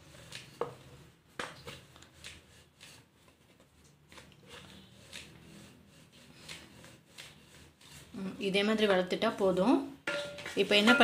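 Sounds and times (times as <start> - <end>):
rolling pin rubbing on dough: 0.0 - 9.1.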